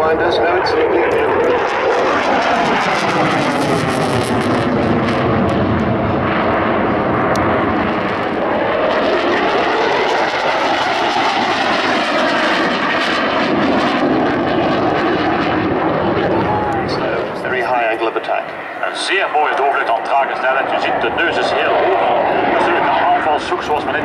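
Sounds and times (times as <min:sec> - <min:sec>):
fighter jet engine roar: 0:00.0 - 0:24.0.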